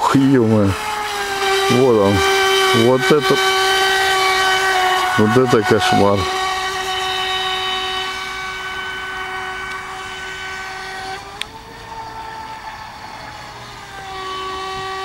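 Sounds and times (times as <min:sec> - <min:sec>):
electric boat motor whine: 0:00.0 - 0:15.0.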